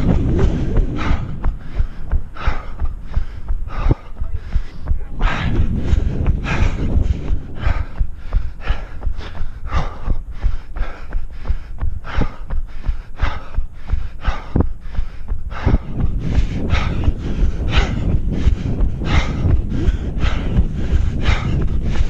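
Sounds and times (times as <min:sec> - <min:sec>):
hard breathing: 0:00.0 - 0:22.0
running footsteps: 0:00.0 - 0:22.0
wind rumble on microphone: 0:00.0 - 0:22.0.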